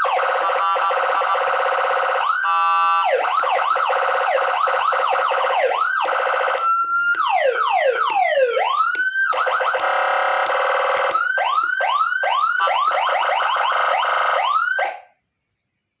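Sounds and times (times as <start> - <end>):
electronic siren: 0.0 - 15.2.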